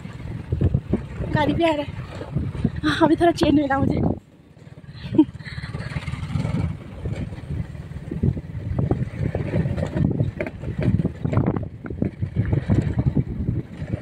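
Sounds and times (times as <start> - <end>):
motorbike riding: 0.0 - 14.0
wind buffeting microphone: 0.0 - 14.0.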